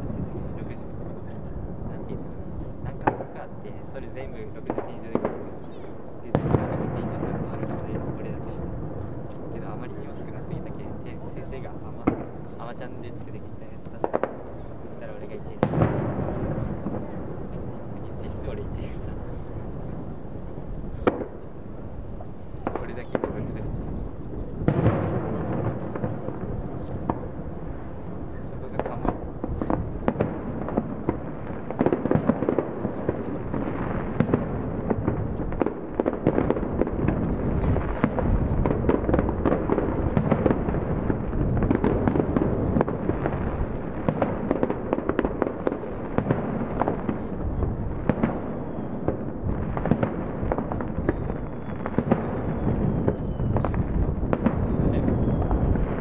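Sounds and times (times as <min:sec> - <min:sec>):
fireworks booms and crackling: 0:00.0 - 0:56.0.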